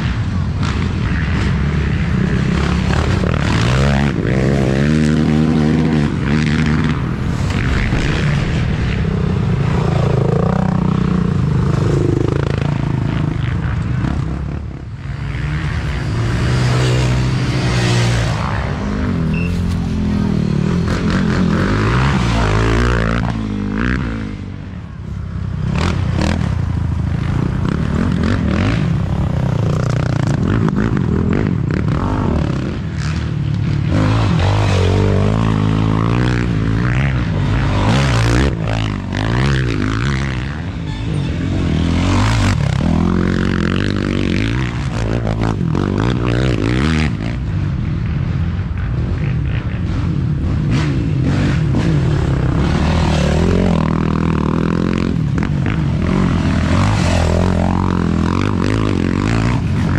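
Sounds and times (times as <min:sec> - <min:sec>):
quad engines revving: 0:00.0 - 0:24.8, 0:25.6 - 0:59.9.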